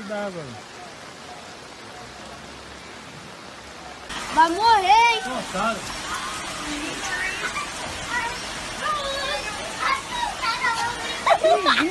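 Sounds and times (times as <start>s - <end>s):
floodwater running over street: 0.0s - 11.9s
rain hissing: 0.0s - 11.9s.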